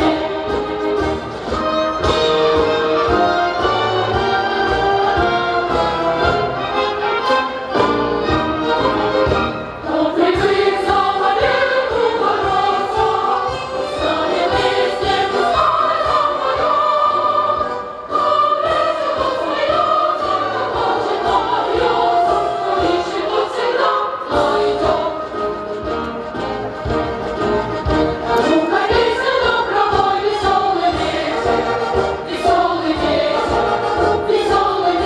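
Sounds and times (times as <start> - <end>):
mass choir singing: 0.0 - 35.0.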